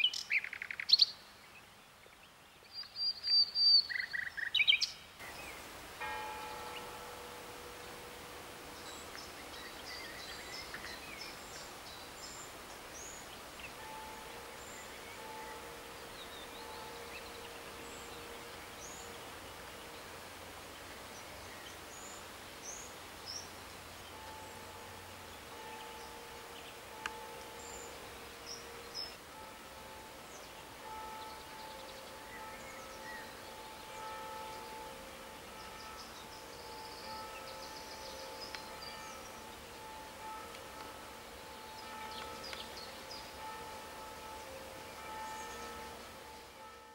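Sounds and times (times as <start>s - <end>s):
steady background hiss: 0.0s - 46.9s
faint droning tones: 5.2s - 46.9s.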